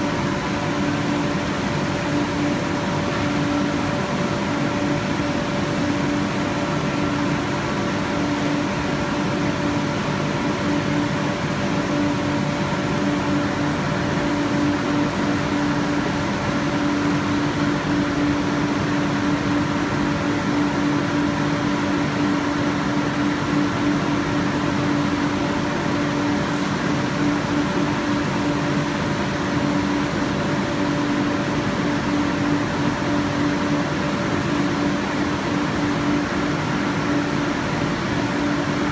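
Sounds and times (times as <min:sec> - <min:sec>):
machine humming with steady tone: 0:00.0 - 0:38.9.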